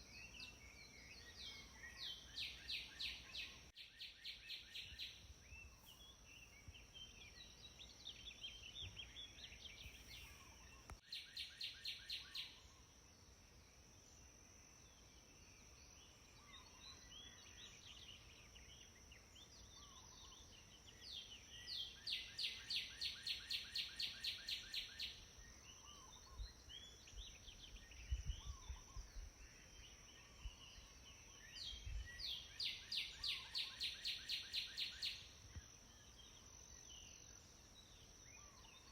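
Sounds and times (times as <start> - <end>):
bird chirps: 0.0 - 12.9, 15.4 - 38.9.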